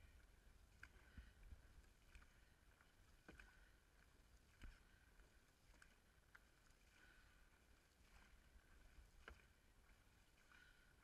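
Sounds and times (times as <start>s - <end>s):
paddles splashing water: 0.0s - 11.0s.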